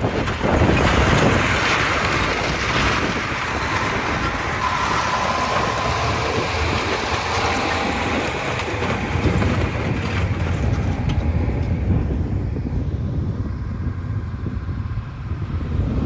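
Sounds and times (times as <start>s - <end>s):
tractor engine running: 0.0s - 16.0s
wind buffeting microphone: 0.0s - 16.0s.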